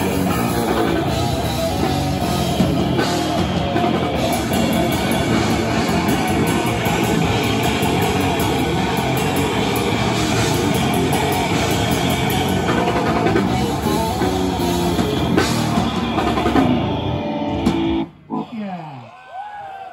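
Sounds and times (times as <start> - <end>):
fast drumming with cymbals: 0.0 - 17.1
distorted electric guitar: 0.0 - 18.4
bass guitar: 0.0 - 18.6.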